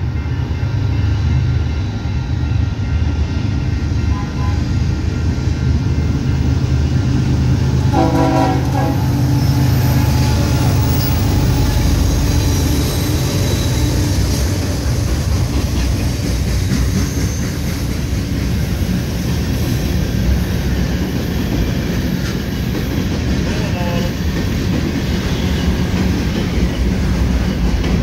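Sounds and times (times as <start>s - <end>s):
diesel locomotive engine drone: 0.0s - 28.0s
train wheels rumbling on rails: 0.0s - 28.0s.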